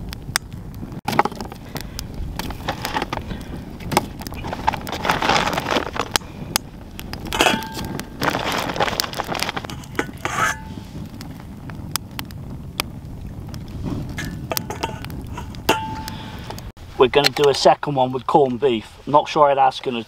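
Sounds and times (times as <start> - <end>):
wind rumbling on microphone: 0.0 - 20.0
wood fire crackling and popping: 0.0 - 20.0.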